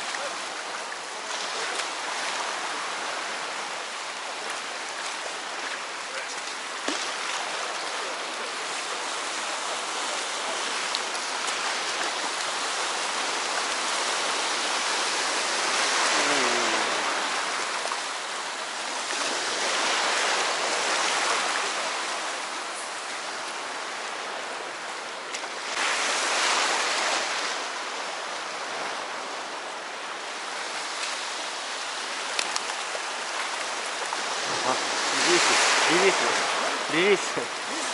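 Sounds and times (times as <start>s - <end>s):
sea waves washing onto shore: 0.0s - 37.9s.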